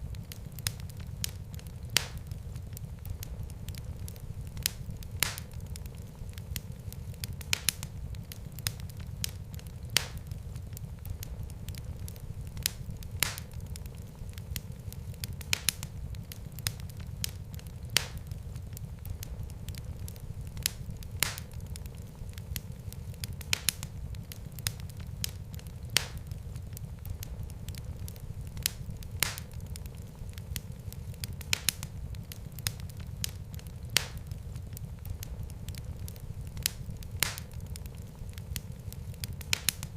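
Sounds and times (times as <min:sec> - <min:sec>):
fire popping and snapping: 0:00.0 - 0:39.9
fire rumbling: 0:00.0 - 0:39.9.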